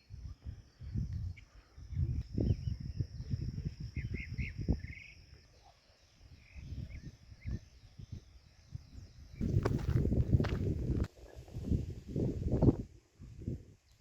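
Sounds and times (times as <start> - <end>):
wind buffeting microphone: 0.0 - 5.4, 6.2 - 14.0
high insect trill: 0.0 - 14.0.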